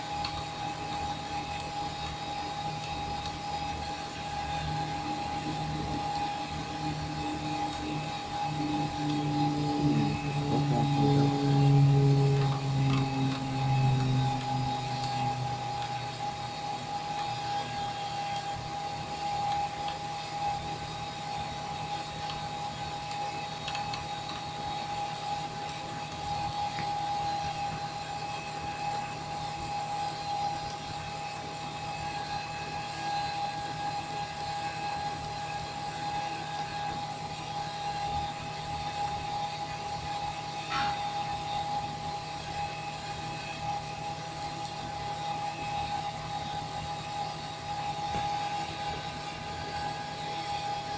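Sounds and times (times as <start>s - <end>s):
high-pitched whine: 0.0s - 50.9s
mechanical hum: 0.0s - 50.9s.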